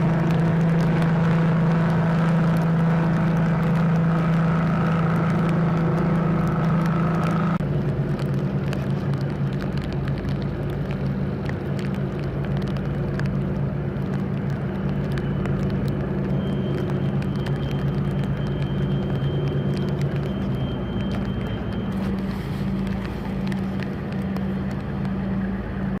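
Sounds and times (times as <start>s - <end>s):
boat diesel engines humming: 0.0s - 26.0s.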